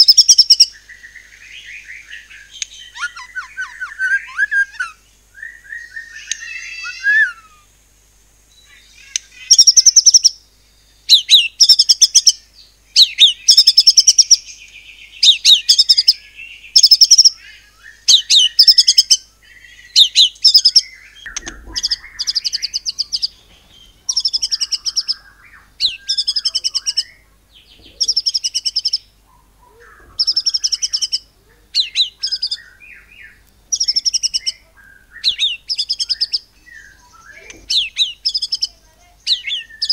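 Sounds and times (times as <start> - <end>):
soft bird call: 0.0 - 7.7, 13.0 - 39.9
songbird singing bursts: 0.0 - 7.7, 8.5 - 39.9.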